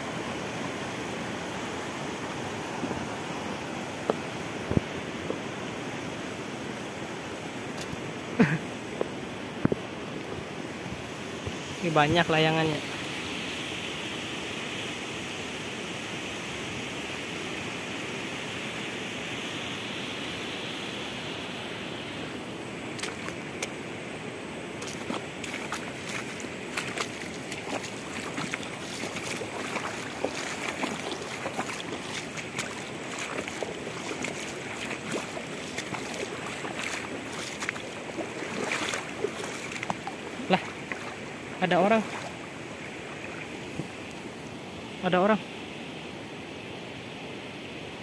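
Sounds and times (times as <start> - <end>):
river water flowing: 0.0 - 48.0.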